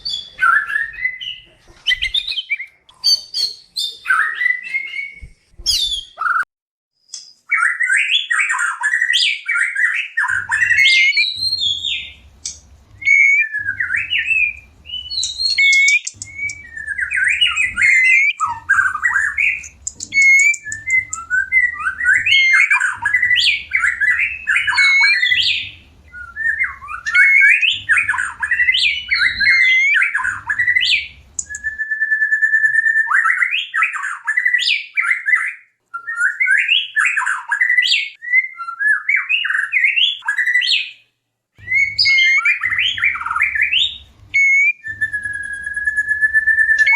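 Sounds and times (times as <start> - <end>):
bird singing whistled phrases: 0.0 - 6.5, 7.1 - 41.0, 41.6 - 46.9.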